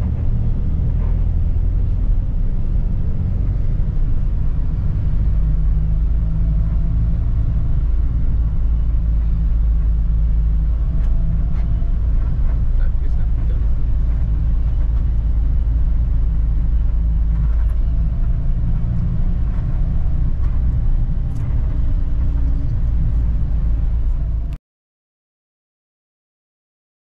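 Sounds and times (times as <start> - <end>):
road noise: 0.0 - 24.6
vehicle engine hum: 0.0 - 24.6.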